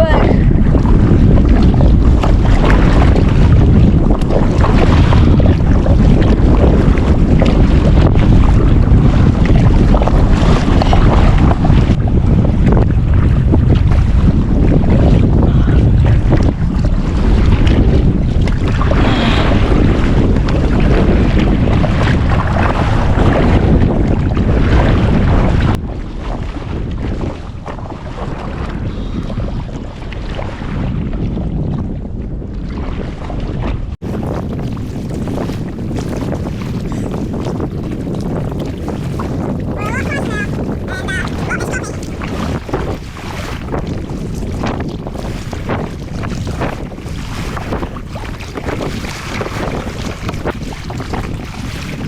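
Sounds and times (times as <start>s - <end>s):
choppy sea water: 0.0s - 52.0s
wind hitting microphone: 0.0s - 52.0s.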